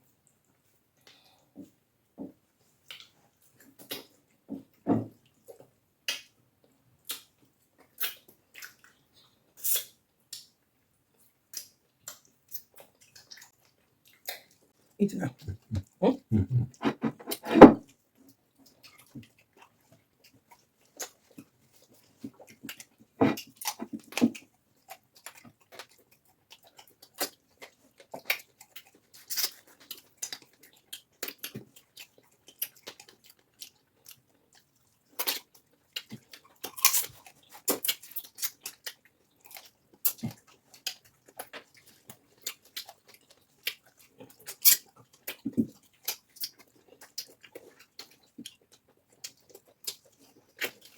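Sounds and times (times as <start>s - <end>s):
chewing food: 0.3s - 50.9s.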